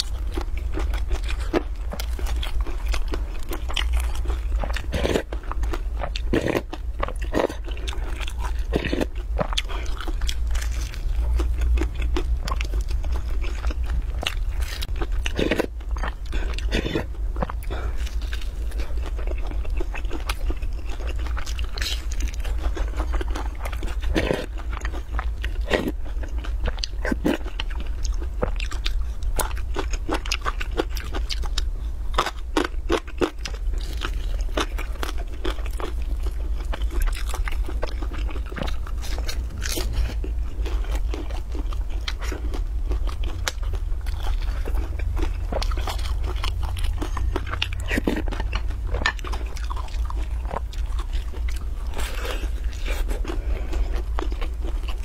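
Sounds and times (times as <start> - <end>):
chewing crisp flatbread: 0.0 - 55.0.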